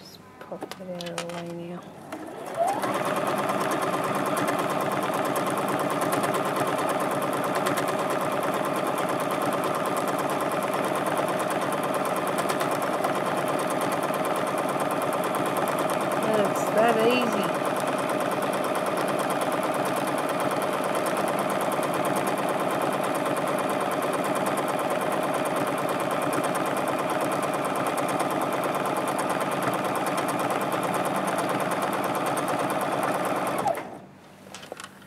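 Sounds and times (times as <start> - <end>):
sewing machine stitching: 2.1 - 34.0.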